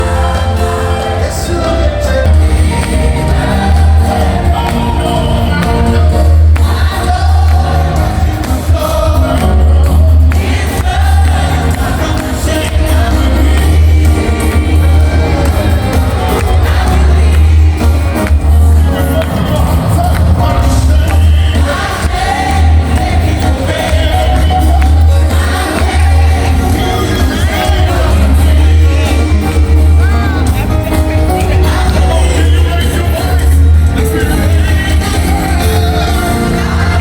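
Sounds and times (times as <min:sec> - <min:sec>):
choir singing: 0:00.0 - 0:19.9, 0:20.6 - 0:30.2, 0:34.2 - 0:37.0
band playing: 0:00.0 - 0:37.0.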